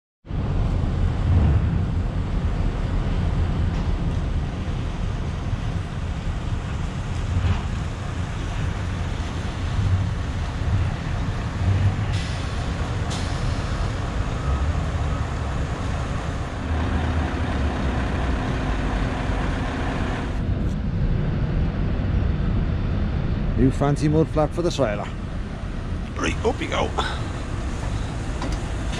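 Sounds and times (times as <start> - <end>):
truck engine and road rumble: 0.2 - 28.9.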